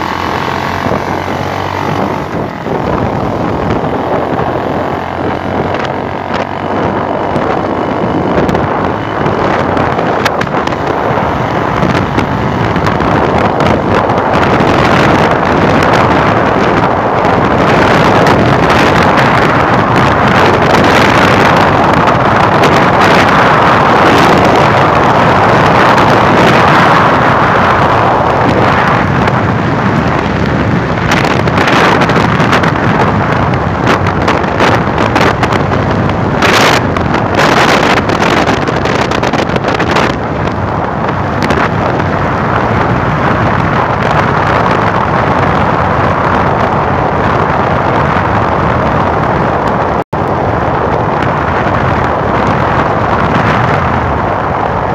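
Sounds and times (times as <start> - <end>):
motorcycle running: 0.0 - 54.9
wind buffeting microphone: 0.0 - 54.9.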